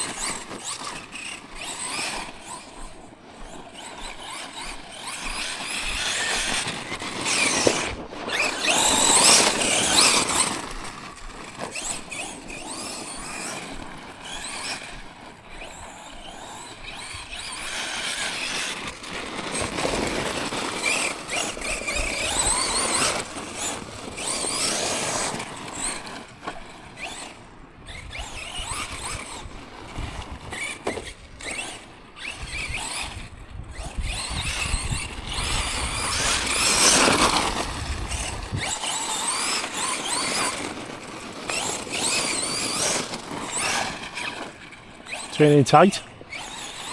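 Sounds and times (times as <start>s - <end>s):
electric motor whine: 0.0s - 46.9s
tyres on rough ground: 0.0s - 46.9s.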